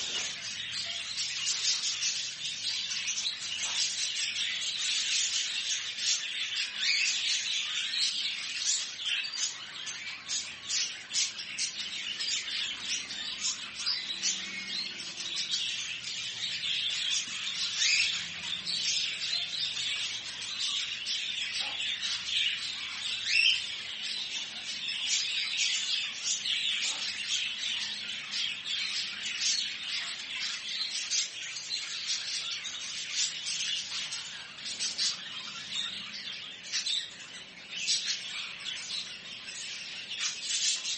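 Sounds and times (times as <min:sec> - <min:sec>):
caged birds chirping and squawking: 0:00.0 - 0:40.9.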